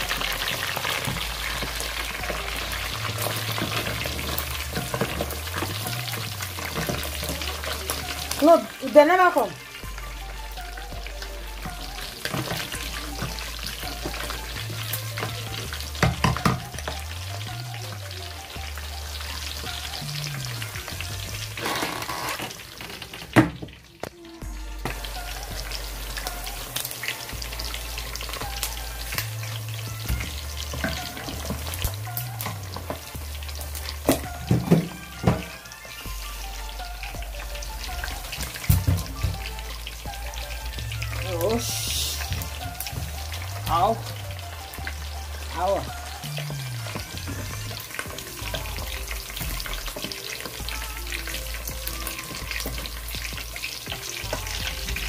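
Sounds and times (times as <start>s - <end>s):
bass line background music: 0.0s - 55.0s
meat deep-frying in oil: 0.0s - 55.0s.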